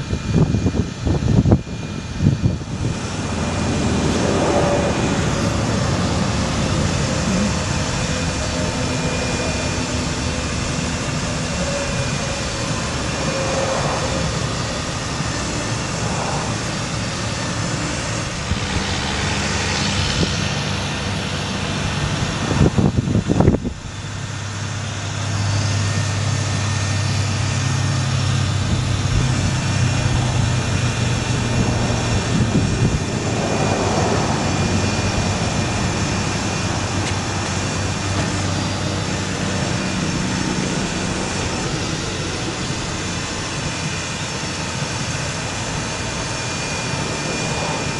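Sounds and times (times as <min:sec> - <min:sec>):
truck engine and hydraulics drone: 0:00.0 - 0:47.9.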